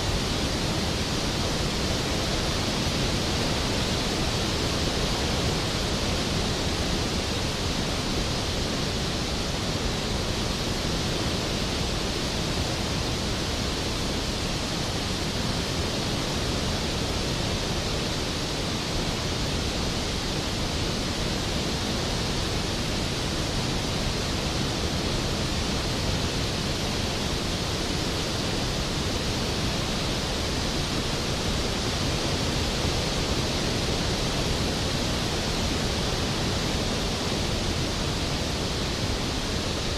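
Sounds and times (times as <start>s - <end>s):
waterfall rushing roar: 0.0s - 39.9s.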